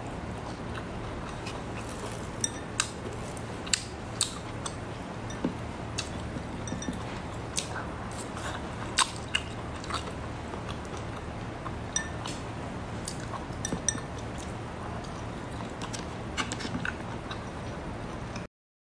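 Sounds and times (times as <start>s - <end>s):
low background noise: 0.0s - 18.5s
wet chewing: 0.4s - 12.4s, 13.0s - 18.4s.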